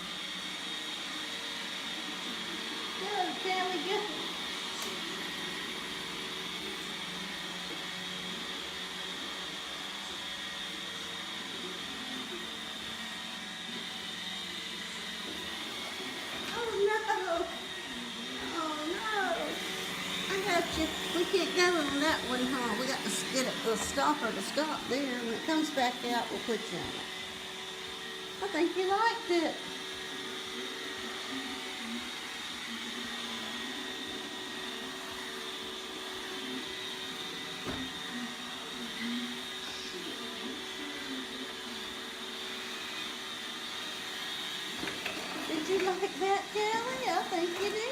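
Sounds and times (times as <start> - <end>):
robot vacuum motor hum: 0.0 - 47.9.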